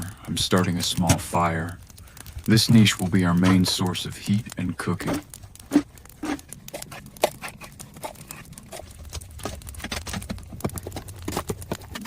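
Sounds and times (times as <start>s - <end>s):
fire low rumble: 0.0s - 12.0s
wood fire crackling and popping: 0.0s - 12.0s.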